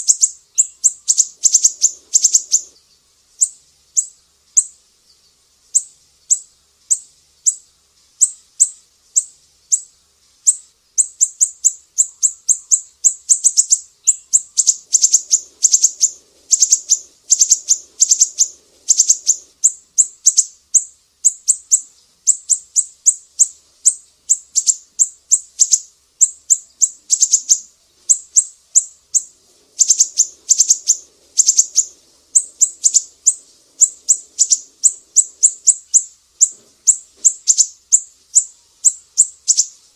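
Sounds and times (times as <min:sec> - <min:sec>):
bird chirping rapidly: 0:00.0 - 0:39.8.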